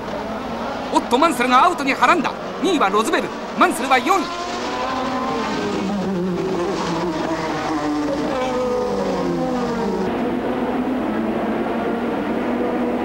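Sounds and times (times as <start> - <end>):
racing cars passing at high revs: 0.0 - 13.0.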